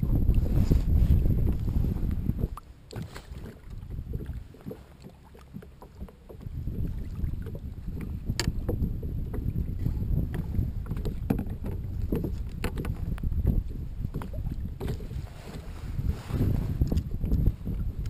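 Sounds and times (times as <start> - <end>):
waves slapping plastic hull: 0.0 - 18.0
wind buffeting microphone: 0.0 - 18.0.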